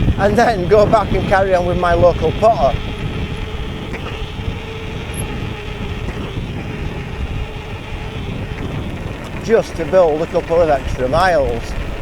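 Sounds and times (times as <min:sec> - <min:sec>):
bike tyre noise on trail: 0:00.0 - 0:12.0
faint steady hum: 0:00.0 - 0:12.0
wind rumbling on microphone: 0:00.0 - 0:12.0.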